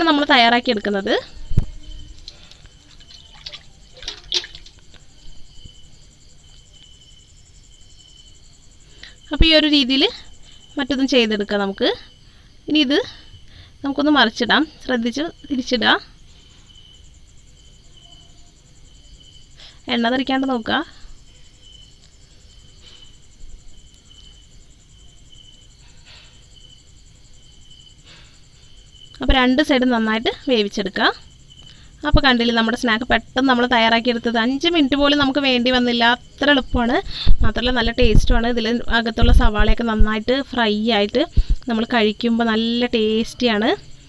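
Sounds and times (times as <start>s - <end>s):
cricket chirping: 0.0s - 44.0s.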